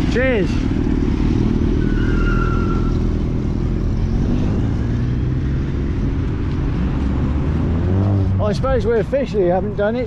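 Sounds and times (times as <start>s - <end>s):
car engine drone: 0.0s - 10.0s
road noise: 0.0s - 10.0s.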